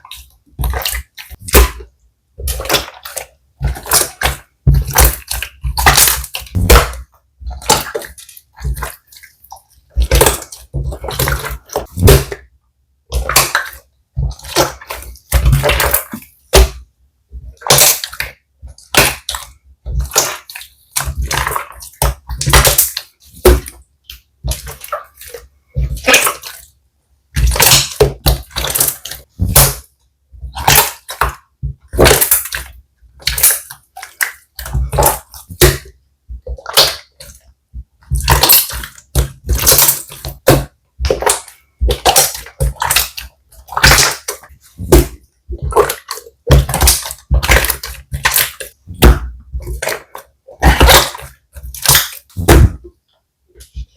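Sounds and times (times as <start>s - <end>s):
slime squelching and popping: 0.0s - 53.9s.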